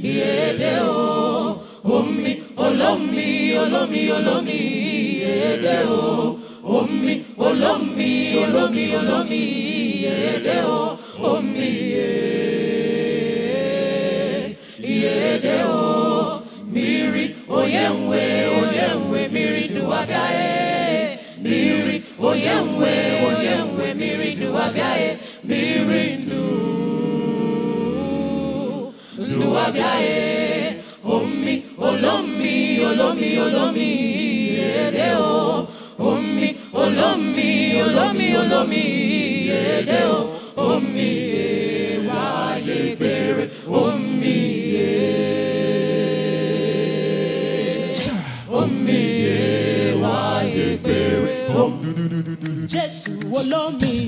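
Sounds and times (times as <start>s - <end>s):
women's choir singing gospel: 0.0s - 53.8s.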